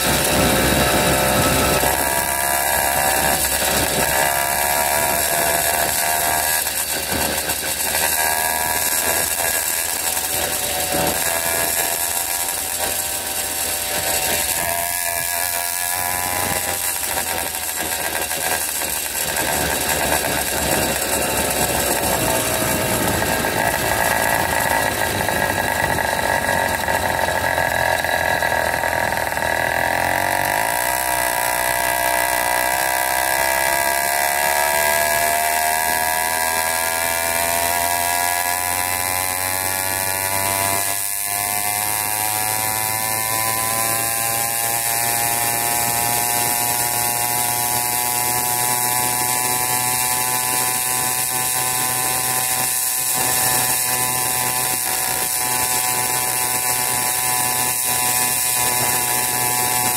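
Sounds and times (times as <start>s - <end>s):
two-stroke bicycle engine buzzing: 0.0s - 59.9s.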